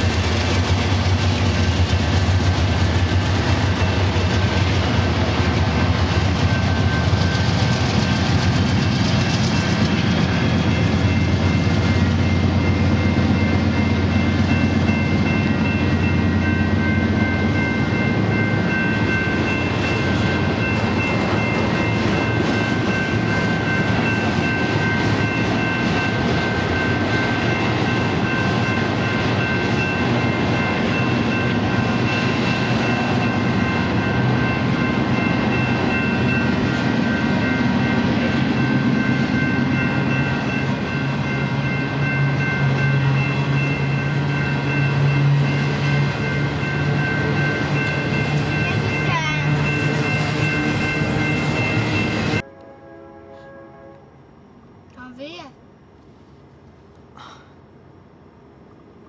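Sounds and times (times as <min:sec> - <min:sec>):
diesel locomotives rumbling: 0:00.0 - 0:55.5.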